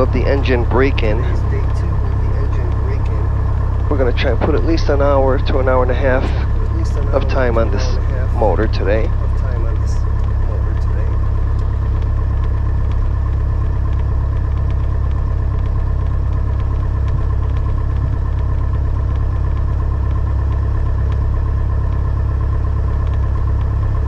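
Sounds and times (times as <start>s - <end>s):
airplane engine droning in cabin: 0.0s - 24.0s.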